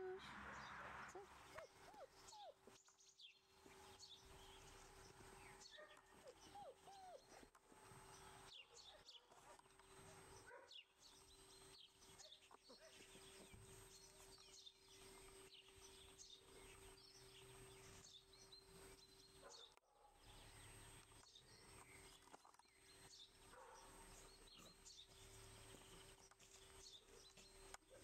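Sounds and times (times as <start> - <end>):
faint bird chirps: 0.0 - 28.0.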